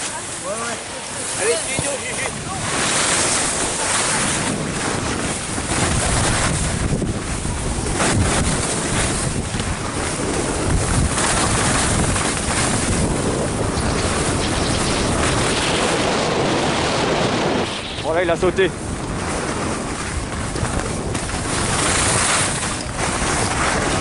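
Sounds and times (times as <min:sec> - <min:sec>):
skis sliding on snow: 0:00.0 - 0:24.0
wind rushing over microphone: 0:00.0 - 0:24.0.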